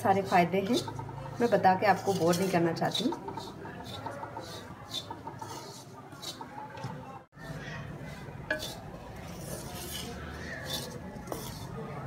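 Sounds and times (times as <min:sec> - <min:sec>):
wooden spatula scraping seeds: 0:00.0 - 0:06.5, 0:08.0 - 0:12.0.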